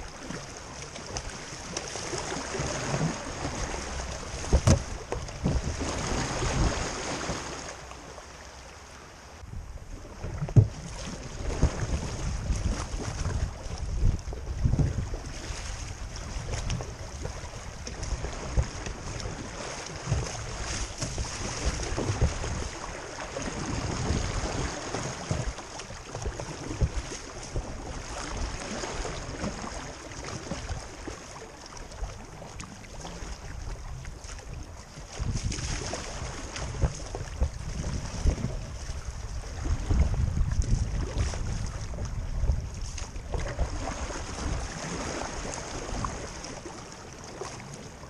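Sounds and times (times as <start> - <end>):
wind rumbling on microphone: 0.0 - 7.7, 9.2 - 48.0
creek water rushing around hull: 0.0 - 48.0
paddle splashes: 0.0 - 48.0.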